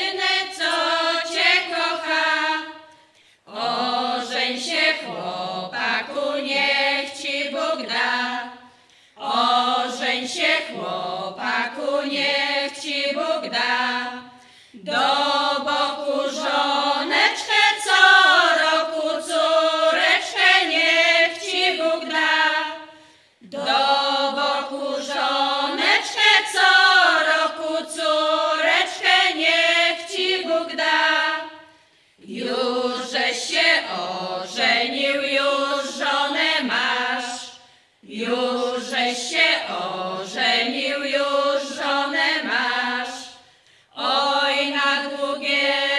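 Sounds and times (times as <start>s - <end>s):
women's choir singing a cappella: 0.0s - 45.9s.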